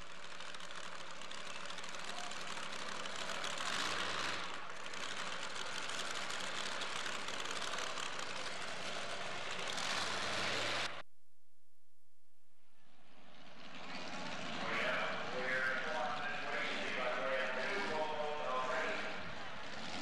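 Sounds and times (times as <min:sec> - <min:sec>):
truck engine idling: 0:00.0 - 0:11.0, 0:12.9 - 0:20.0.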